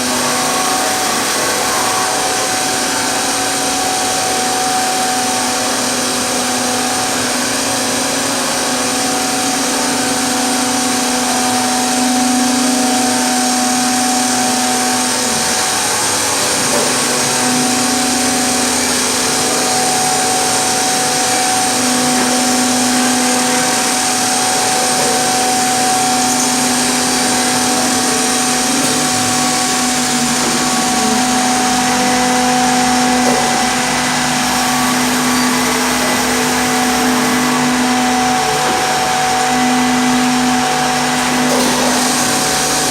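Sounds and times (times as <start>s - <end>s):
router spindles whining: 0.0s - 42.9s.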